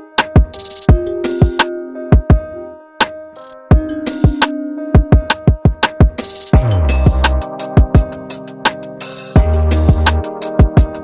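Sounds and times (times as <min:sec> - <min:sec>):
electronic hip-hop beat: 0:00.0 - 0:11.0.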